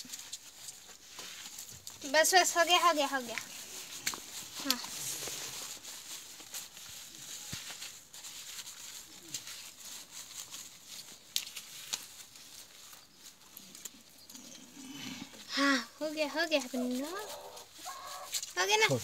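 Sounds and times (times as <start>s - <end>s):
wet rubbing of soapy fur: 0.0s - 19.0s.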